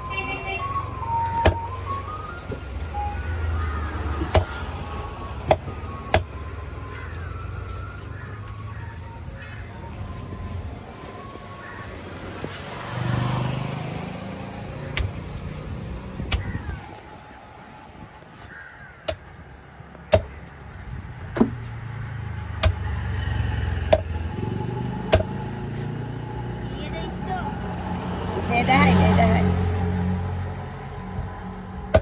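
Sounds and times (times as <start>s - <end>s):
vehicle rumbling past: 0.0s - 18.2s, 19.7s - 32.0s.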